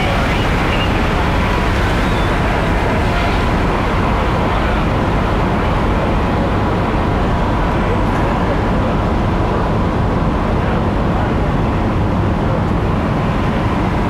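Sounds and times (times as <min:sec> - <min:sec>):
fire engines running: 0:00.0 - 0:14.0.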